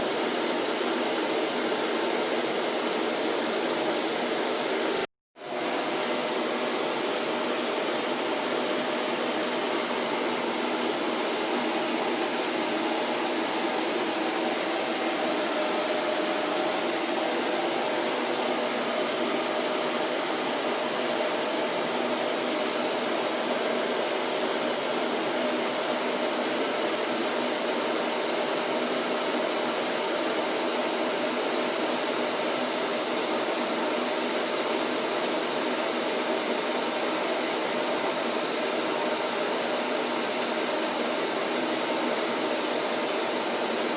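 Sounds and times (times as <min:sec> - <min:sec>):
vacuum cleaner motor running: 0:00.0 - 0:43.9.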